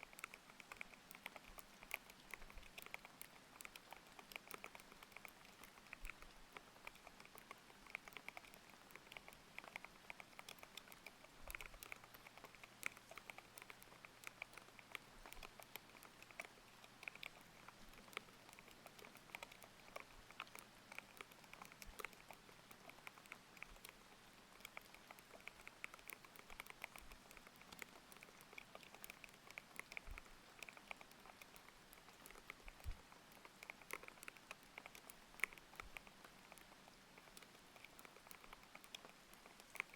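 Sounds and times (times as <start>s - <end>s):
faint rain: 0.0s - 39.9s.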